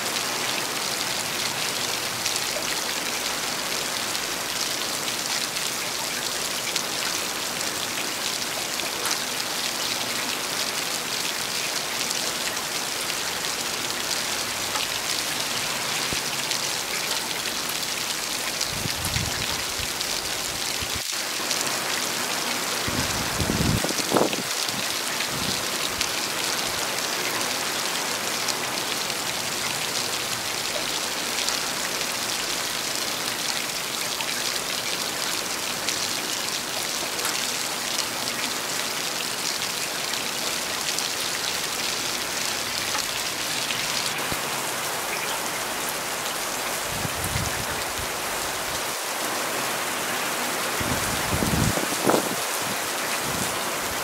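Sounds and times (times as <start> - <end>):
heavy rain hissing: 0.0 - 33.9, 34.5 - 54.0.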